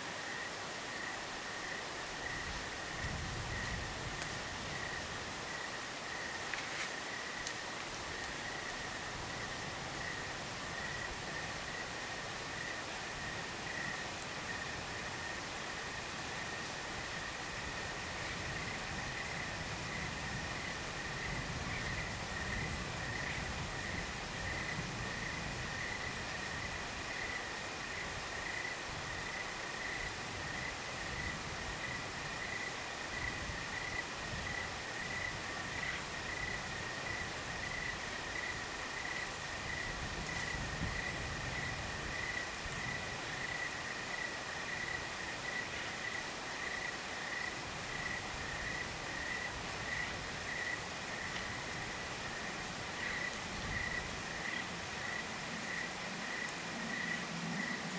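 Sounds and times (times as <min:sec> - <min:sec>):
crickets chirping: 0:00.0 - 0:57.9
wind rumbling on microphone: 0:01.0 - 0:44.0, 0:47.6 - 0:57.9.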